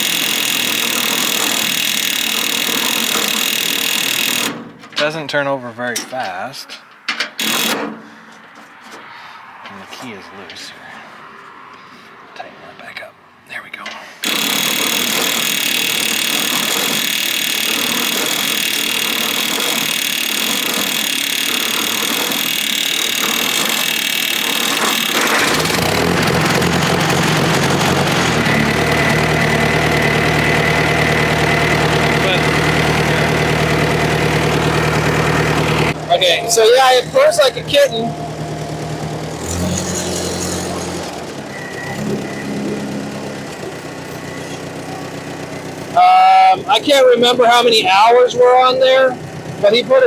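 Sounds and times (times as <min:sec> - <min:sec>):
tractor starter cranking engine: 0:00.0 - 0:09.1, 0:14.2 - 0:50.0.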